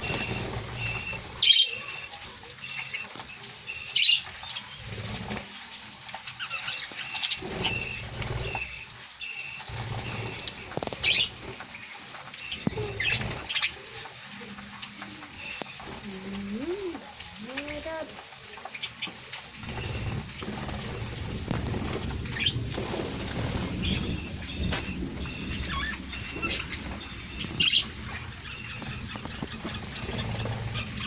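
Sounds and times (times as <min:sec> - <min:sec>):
flock of birds chirping: 0:00.0 - 0:31.0
wings fluttering: 0:00.0 - 0:31.0.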